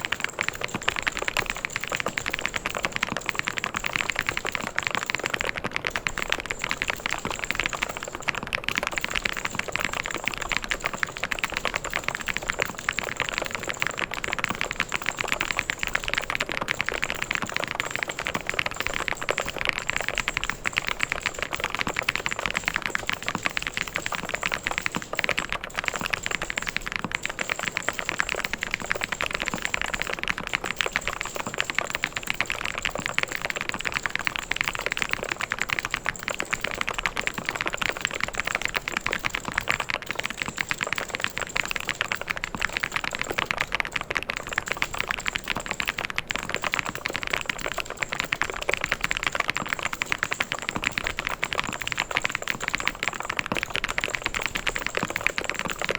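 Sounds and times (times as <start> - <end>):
typing on mechanical keyboard: 0.0 - 55.9.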